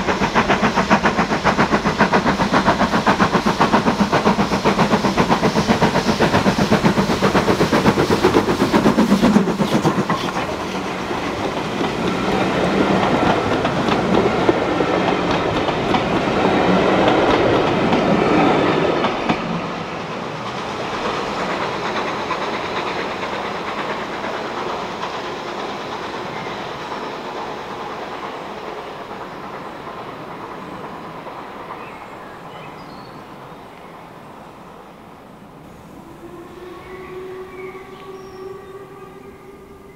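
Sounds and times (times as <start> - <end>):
steam train passing: 0.0 - 39.9.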